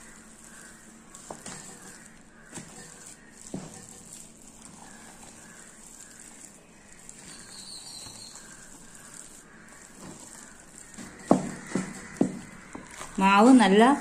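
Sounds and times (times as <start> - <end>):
spoon stirring batter in steel bowl: 0.0 - 14.0.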